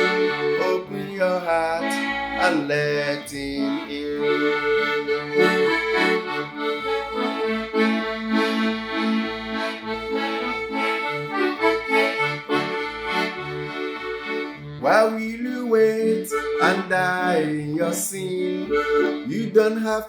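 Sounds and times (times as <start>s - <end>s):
bass line: 0.0s - 19.7s
reedy held chords: 0.0s - 19.7s.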